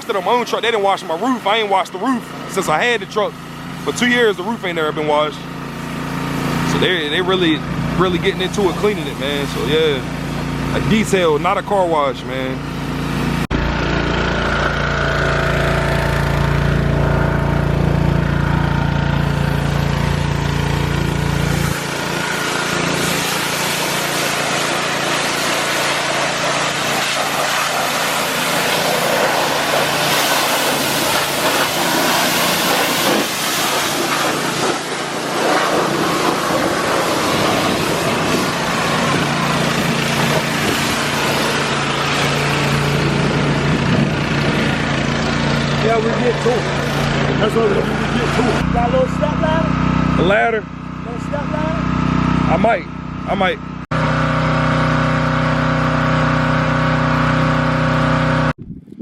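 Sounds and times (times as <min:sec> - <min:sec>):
water spraying on truck: 0:00.0 - 0:48.6
engine humming: 0:00.0 - 0:59.0.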